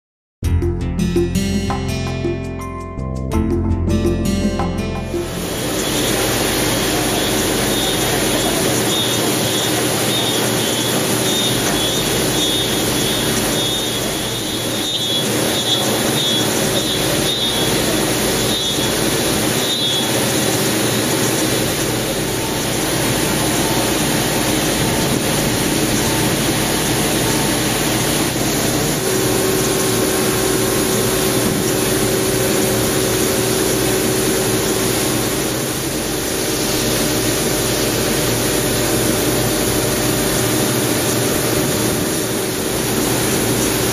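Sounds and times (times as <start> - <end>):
milling machine cutting metal: 5.1 - 43.9
coolant mist blowing: 5.2 - 43.9.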